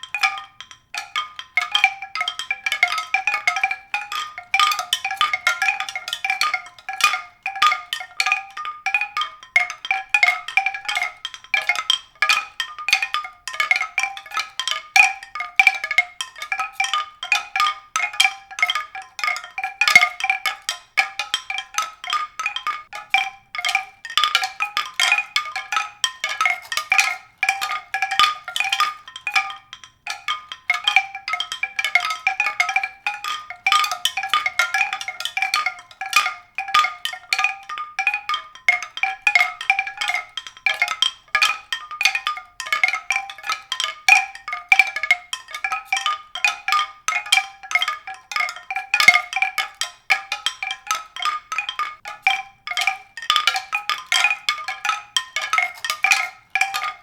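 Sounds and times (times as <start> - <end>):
mallet percussion ringing notes: 0.0 - 57.0.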